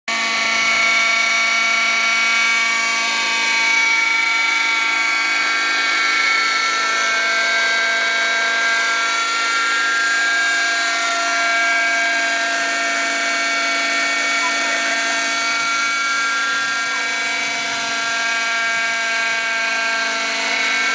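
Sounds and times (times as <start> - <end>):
model helicopter engine whine: 0.1 - 20.9.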